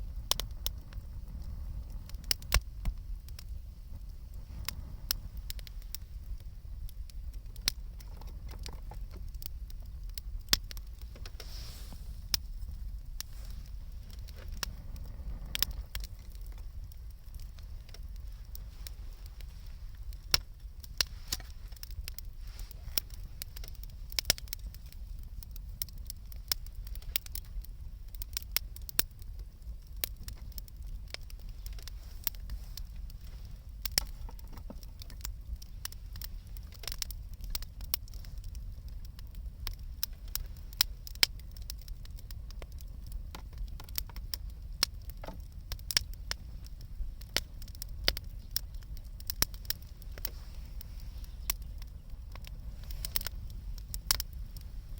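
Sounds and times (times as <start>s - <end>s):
low steady rumble: 0.0s - 54.9s
wood fire crackling and popping: 0.0s - 54.9s.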